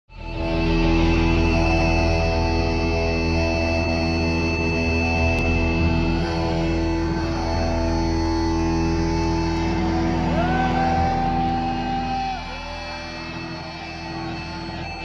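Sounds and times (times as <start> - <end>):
electric guitars ringing: 0.1 - 15.0.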